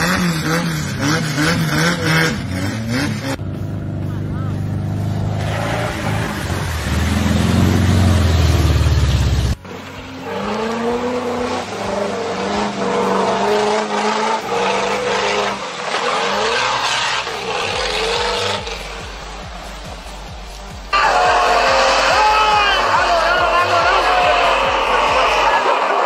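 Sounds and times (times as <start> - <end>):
car engine revving hard: 0.0 - 3.4, 5.3 - 26.0.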